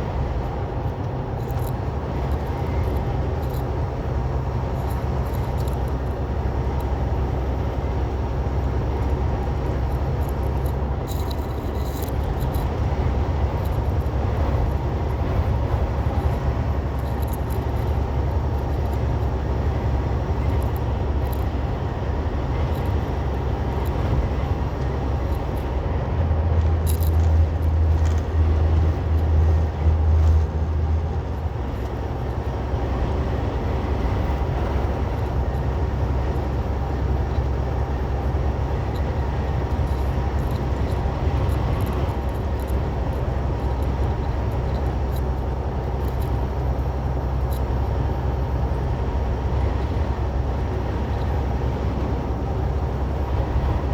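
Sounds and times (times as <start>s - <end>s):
road noise: 0.0s - 53.9s
truck diesel engine rumble: 0.0s - 53.9s.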